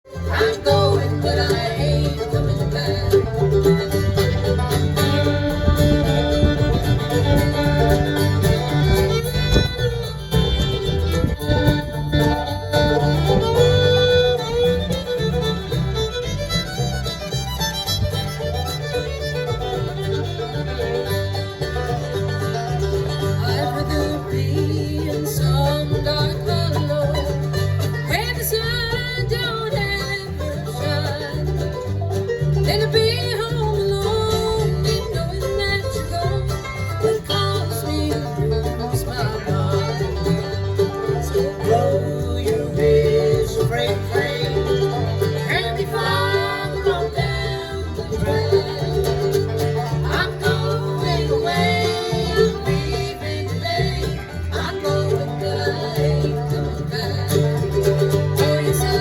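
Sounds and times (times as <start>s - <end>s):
banjo: 0.0s - 59.0s
fiddle: 0.0s - 59.0s
guitar: 0.0s - 59.0s
steady bass line: 0.0s - 59.0s.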